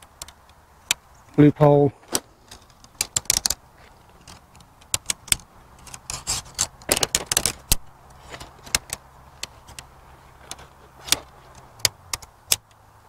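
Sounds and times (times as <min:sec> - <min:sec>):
tent pole sections clicking: 0:00.0 - 0:13.0.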